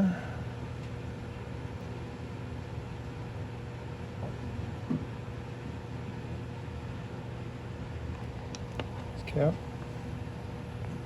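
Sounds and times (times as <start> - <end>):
low hum and hiss: 0.0 - 11.0.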